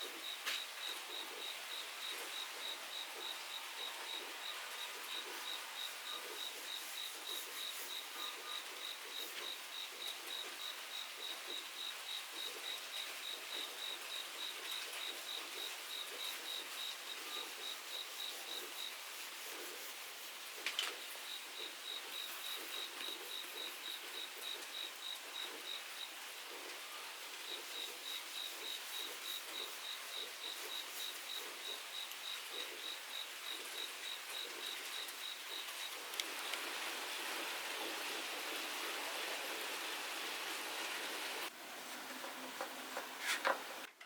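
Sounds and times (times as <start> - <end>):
cricket chirping: 0.0 - 37.9
rain hiss: 0.0 - 43.9.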